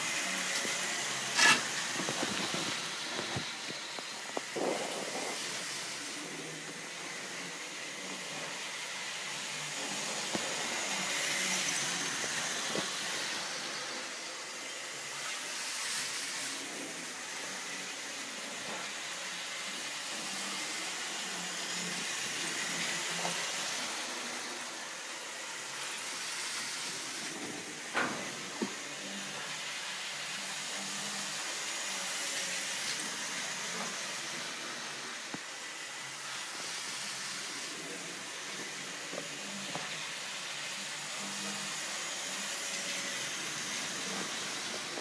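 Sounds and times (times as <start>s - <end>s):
model steam locomotive hissing: 0.0s - 45.0s.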